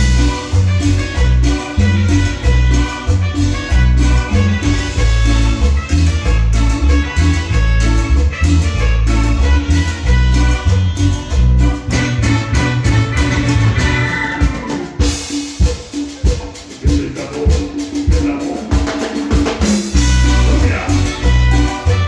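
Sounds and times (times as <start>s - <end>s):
band playing dance rhythm: 0.0s - 22.0s
bass: 0.0s - 22.0s.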